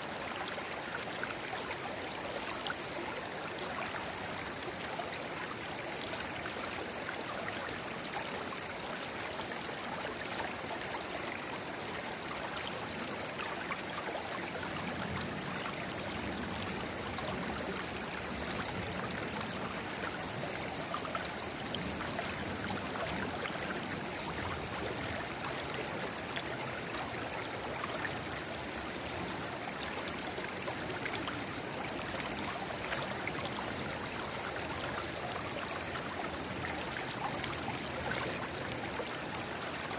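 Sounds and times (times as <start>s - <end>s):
river babbling: 0.0s - 39.9s
stream pouring: 0.1s - 39.9s.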